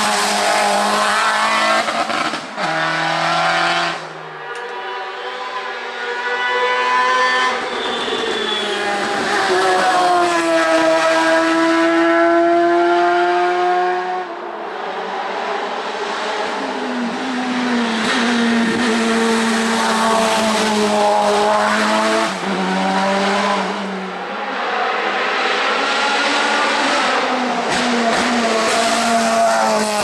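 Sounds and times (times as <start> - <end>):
race car engine at high revs: 0.0 - 30.0.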